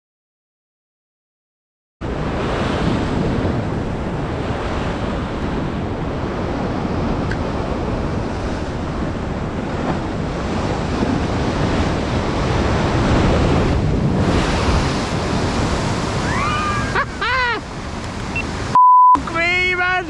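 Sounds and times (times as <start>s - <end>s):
wind buffeting microphone: 2.0s - 18.8s
sea waves breaking: 2.0s - 20.0s.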